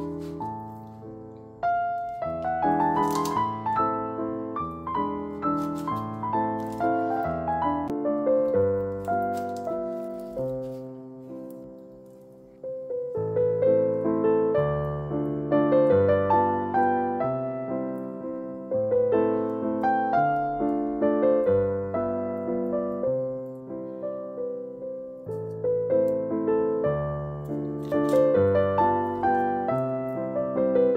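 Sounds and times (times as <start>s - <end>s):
gentle piano music: 0.0s - 30.9s.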